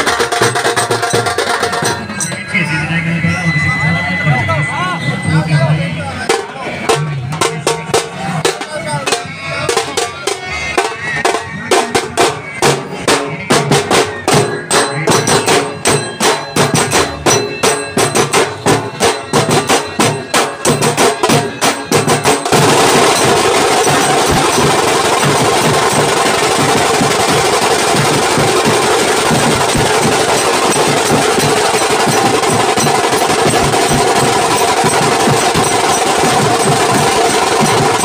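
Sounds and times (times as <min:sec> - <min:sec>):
drums beaten with sticks: 0:00.0 - 0:02.9, 0:06.2 - 0:38.0.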